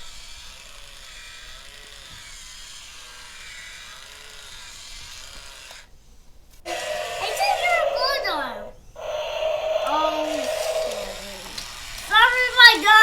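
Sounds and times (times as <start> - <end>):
toy motor whirring: 0.0 - 5.9, 6.7 - 13.0.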